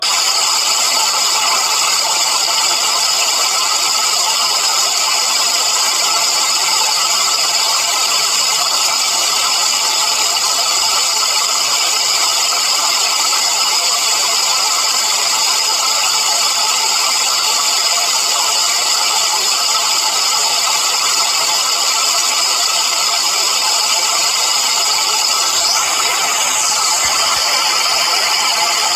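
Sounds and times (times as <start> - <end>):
machine hiss and drone: 0.0 - 28.9.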